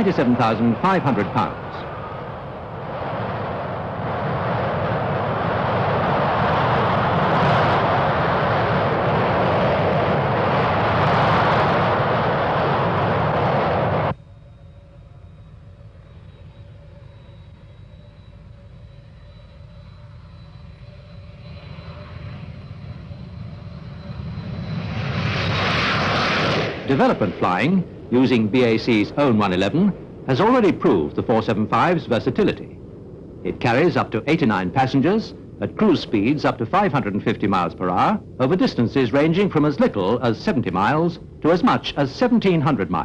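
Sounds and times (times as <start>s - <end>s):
loud jet engine noise: 0.0s - 43.0s
quiet jet whine: 0.0s - 43.0s.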